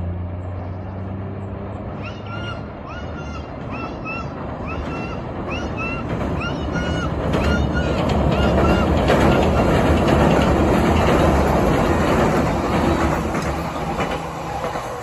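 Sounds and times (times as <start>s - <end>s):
train wheels rumbling on rail: 0.0s - 15.0s
wheels clacking: 1.7s - 15.0s.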